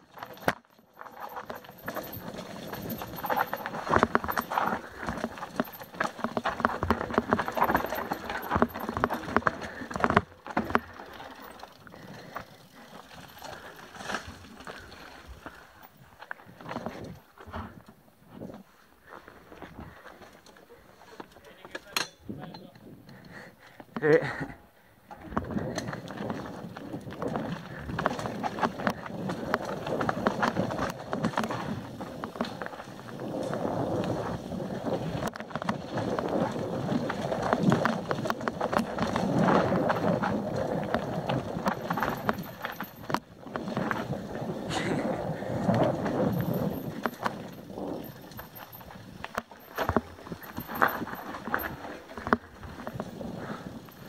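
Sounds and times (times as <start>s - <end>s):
tyres crunching on loose stones: 0.0s - 17.8s, 25.2s - 54.0s
bike knocking and rattling: 0.0s - 24.3s, 25.0s - 54.0s.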